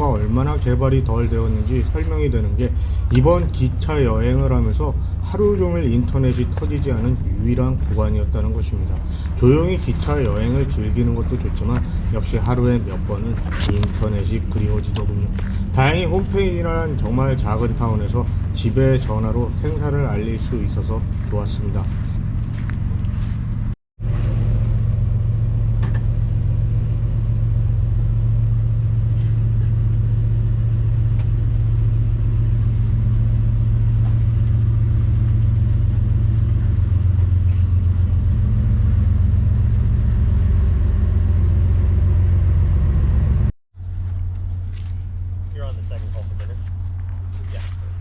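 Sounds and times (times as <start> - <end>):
train diesel engine humming: 0.0 - 48.0.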